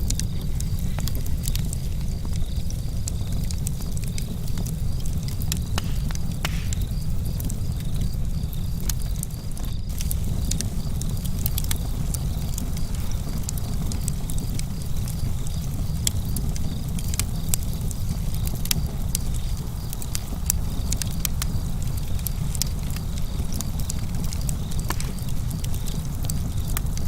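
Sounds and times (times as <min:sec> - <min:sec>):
burning wood popping and snapping: 0:00.0 - 0:27.0
steady low rumble: 0:00.0 - 0:27.0.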